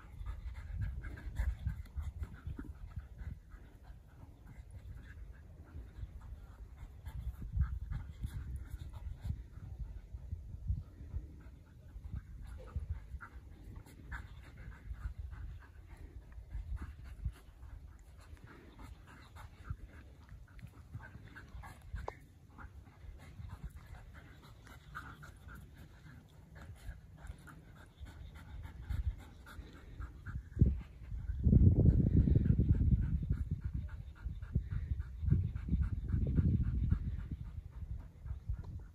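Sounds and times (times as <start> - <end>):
dogs panting: 0.0 - 38.9.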